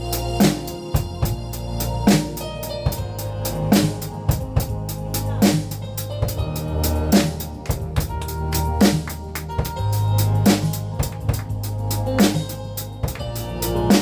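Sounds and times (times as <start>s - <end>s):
backing track with bass and keyboard: 0.0s - 14.0s
drum kit beat: 0.0s - 14.0s.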